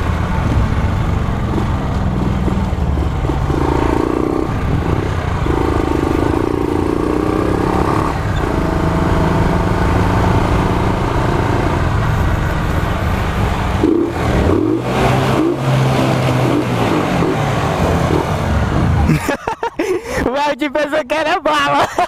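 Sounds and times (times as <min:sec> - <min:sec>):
motorcycle engine running: 0:00.0 - 0:19.2.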